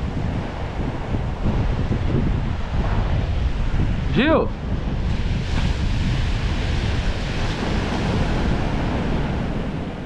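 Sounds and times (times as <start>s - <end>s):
surf breaking on beach: 0.0s - 10.0s
wind buffeting microphone: 0.0s - 10.0s.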